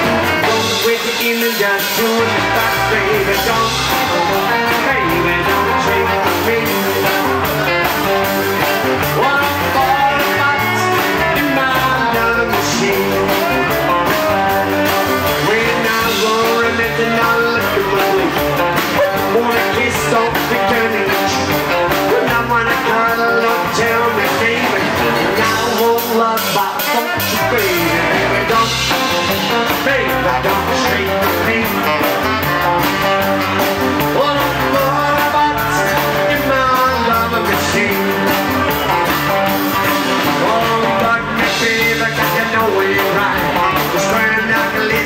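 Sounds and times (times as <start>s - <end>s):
drums: 0.0s - 45.0s
electric guitar: 0.0s - 45.0s
saxophone: 0.0s - 45.0s
upright double bass: 0.0s - 45.0s.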